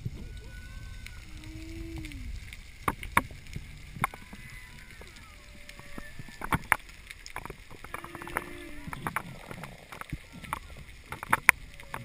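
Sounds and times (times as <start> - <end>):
low rumble of moving water: 0.0 - 12.0.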